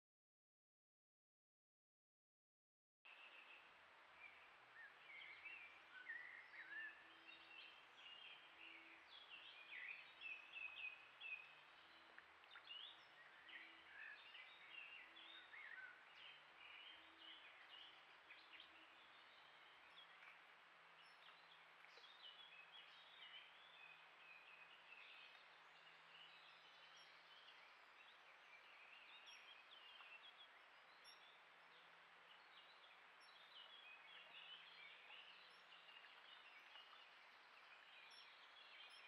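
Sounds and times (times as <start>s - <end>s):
steady outdoor hiss: 3.1s - 39.0s.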